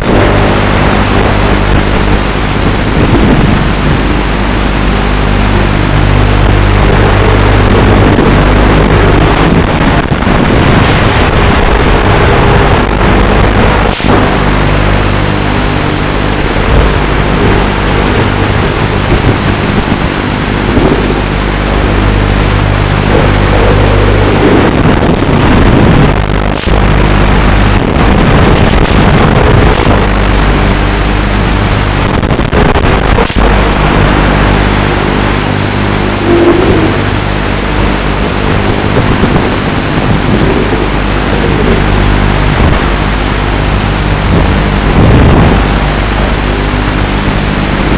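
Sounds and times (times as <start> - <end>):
drone motors buzzing: 0.0 - 47.9
wind rushing over microphone: 0.0 - 47.9.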